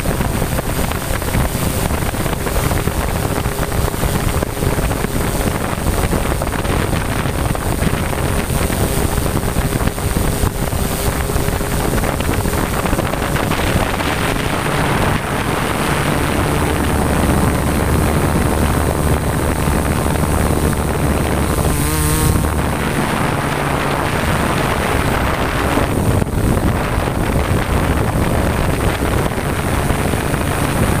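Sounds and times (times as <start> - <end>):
drone rotor hum: 0.0 - 31.0
wavering whine: 0.0 - 31.0
wind buffeting microphone: 0.0 - 31.0.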